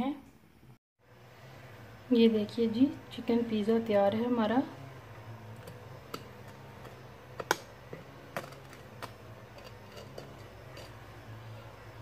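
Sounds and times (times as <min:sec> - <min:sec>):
low steady hum: 0:00.3 - 0:12.0.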